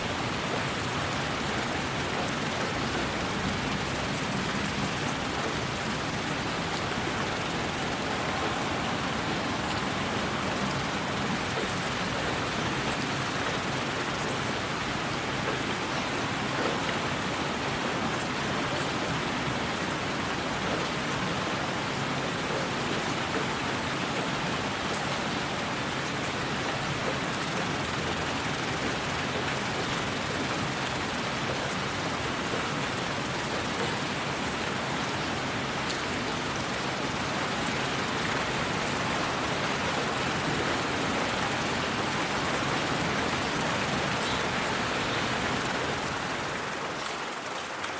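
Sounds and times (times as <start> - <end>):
steady white noise hiss: 0.0 - 47.9.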